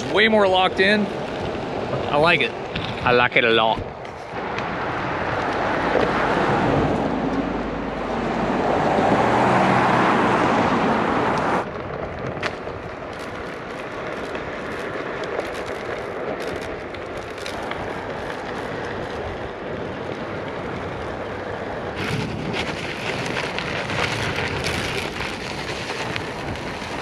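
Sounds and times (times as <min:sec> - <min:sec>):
grit ticking under tyre: 0:00.0 - 0:27.0
tyre rolling over asphalt: 0:00.0 - 0:27.0
wind on microphone: 0:00.0 - 0:27.0.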